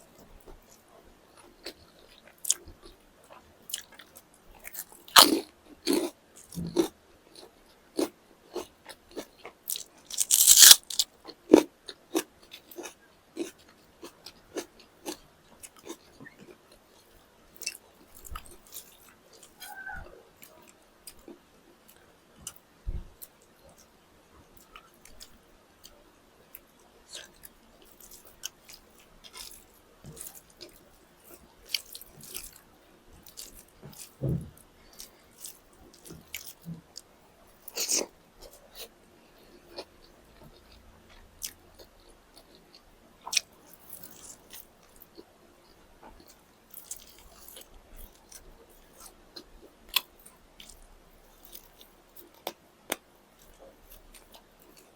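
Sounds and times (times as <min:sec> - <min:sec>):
close-miked eating crunches: 0:01.4 - 0:16.6, 0:24.6 - 0:34.2, 0:34.9 - 0:39.0, 0:39.7 - 0:54.9.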